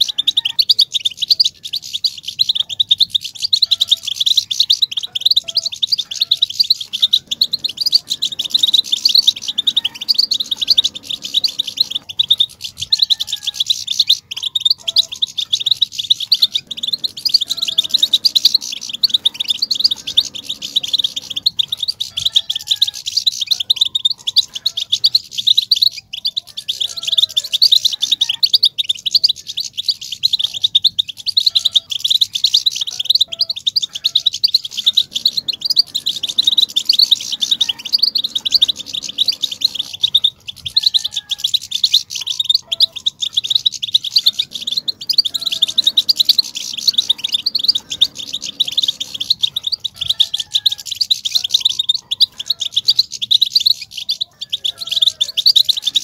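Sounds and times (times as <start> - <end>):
finches twittering chatter: 0.0 - 56.0.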